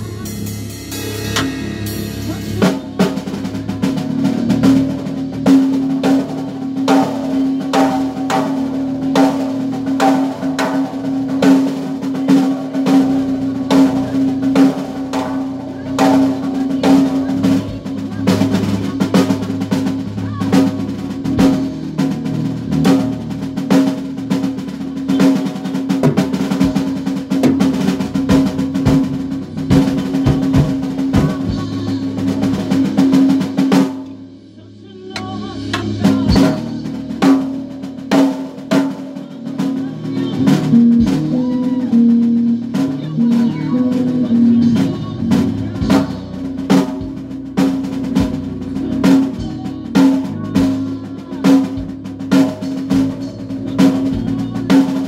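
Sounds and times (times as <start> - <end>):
band playing: 0.0 - 55.0
drum kit snare rolls: 0.0 - 55.0.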